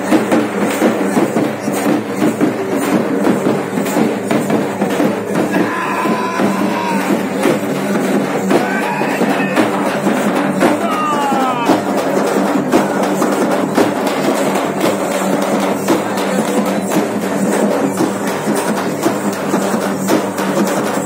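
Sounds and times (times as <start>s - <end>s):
crowd: 0.0s - 21.0s
fast procession drumming: 0.0s - 21.0s.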